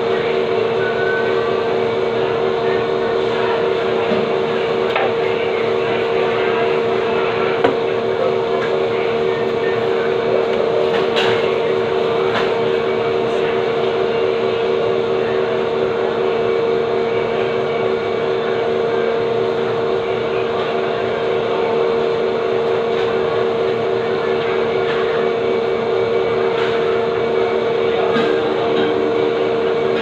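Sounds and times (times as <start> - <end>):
loud mechanical hum: 0.0 - 30.0.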